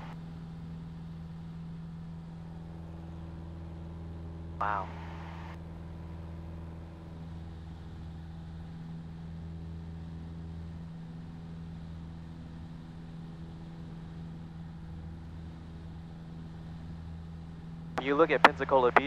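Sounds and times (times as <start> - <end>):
aircraft engine and propeller droning: 0.0 - 19.0.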